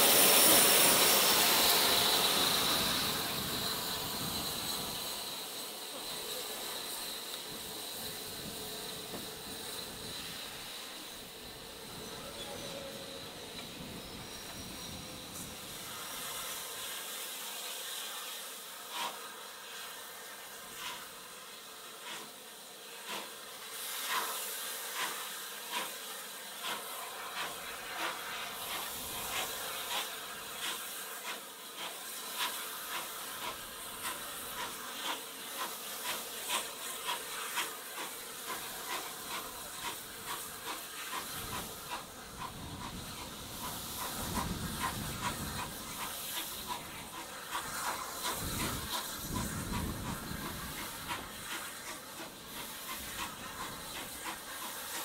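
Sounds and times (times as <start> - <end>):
steam locomotive exhaust beats: 0.0 - 18.0, 18.6 - 55.0
steam hissing: 0.0 - 55.0.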